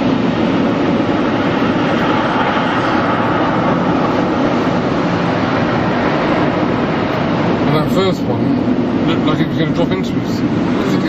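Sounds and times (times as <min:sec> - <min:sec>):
car wash machinery rushing: 0:00.0 - 0:11.0.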